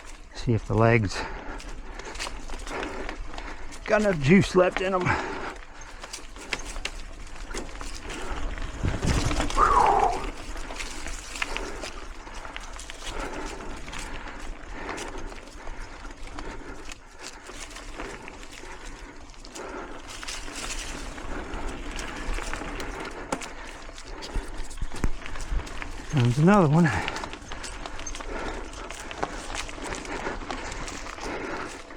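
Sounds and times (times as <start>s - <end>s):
bicycle tyre and chain noise: 0.0s - 31.9s
rider breathing hard: 0.0s - 31.9s.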